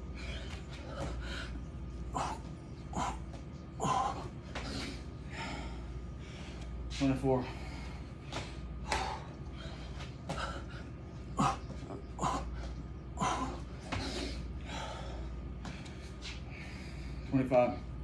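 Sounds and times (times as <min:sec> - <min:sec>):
man breathing hard: 0:00.0 - 0:17.4
steady low hum: 0:00.0 - 0:18.0.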